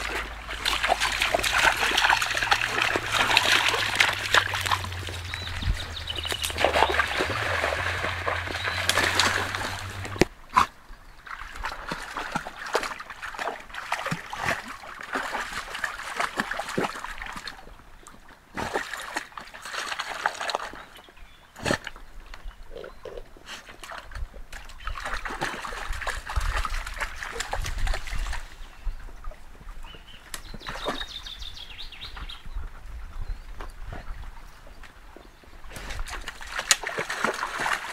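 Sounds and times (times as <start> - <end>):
dog splashing in stream: 0.0 - 21.0, 23.6 - 32.6, 33.7 - 37.9.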